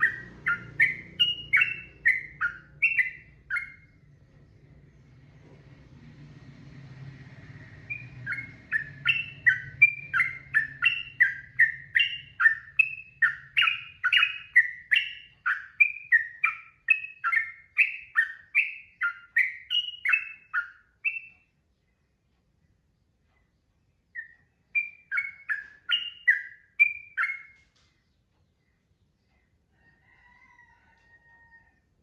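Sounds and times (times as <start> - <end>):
bird singing rapid clear notes: 0.0 - 4.9, 7.6 - 22.2, 22.8 - 29.6.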